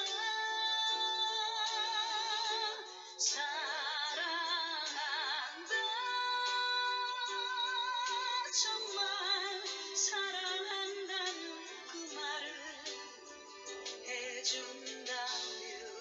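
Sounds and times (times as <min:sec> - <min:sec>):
soft musical accompaniment: 0:00.0 - 0:16.0
woman singing with vibrato: 0:00.0 - 0:16.0.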